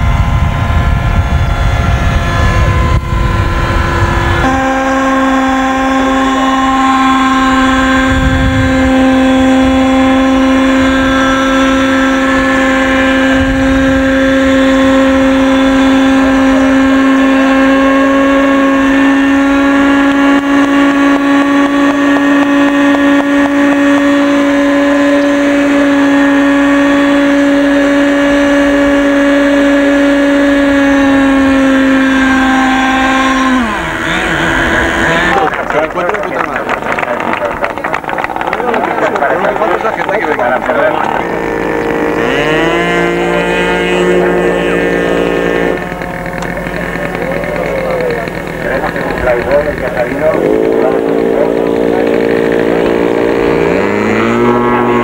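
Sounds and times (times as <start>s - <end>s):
model helicopter engine: 0.0s - 55.0s.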